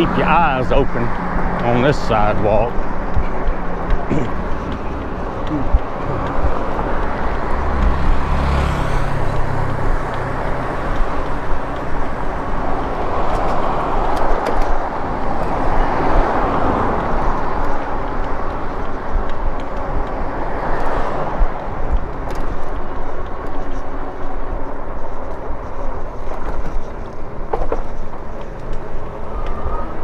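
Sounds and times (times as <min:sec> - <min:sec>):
tyres on rough pavement: 0:00.0 - 0:30.0
wind over microphone: 0:00.0 - 0:30.0.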